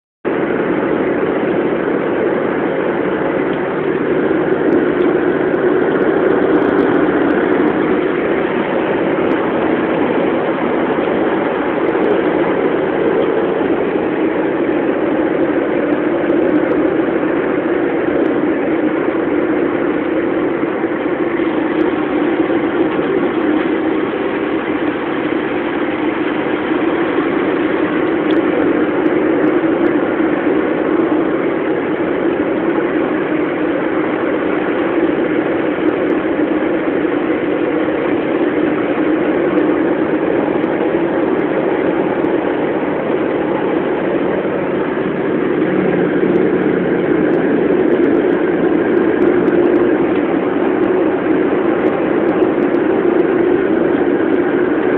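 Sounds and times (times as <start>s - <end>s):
car engine and road noise drone: 0.3s - 54.9s.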